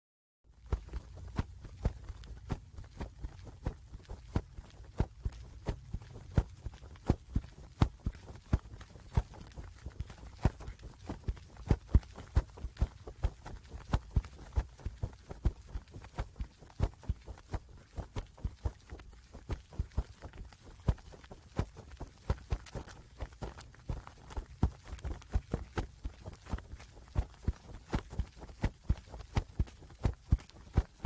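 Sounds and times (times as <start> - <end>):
bird wings flapping: 0.6 - 31.0.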